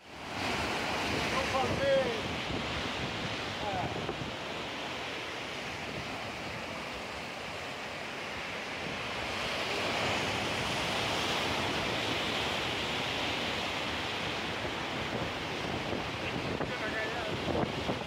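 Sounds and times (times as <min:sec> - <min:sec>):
ocean surf breaking on rocks: 0:00.0 - 0:18.0.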